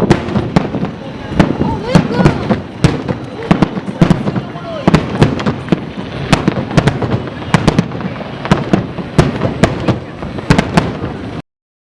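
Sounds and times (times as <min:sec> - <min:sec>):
fireworks bursting with sharp bangs: 0:00.0 - 0:11.4
fireworks crackling: 0:00.0 - 0:11.4.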